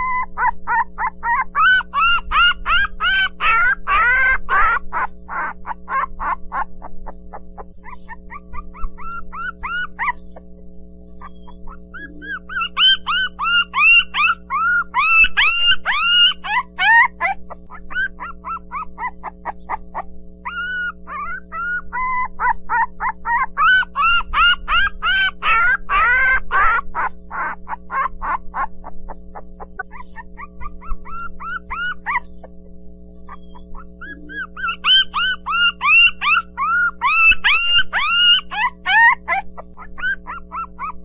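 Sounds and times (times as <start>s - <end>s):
puppies yelping and whining: 0.0s - 41.0s.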